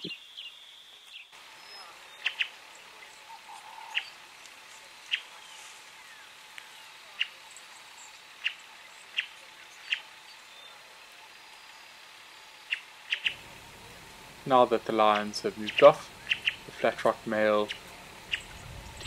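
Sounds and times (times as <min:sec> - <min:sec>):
faint bush ambience hiss: 0:00.0 - 0:19.0.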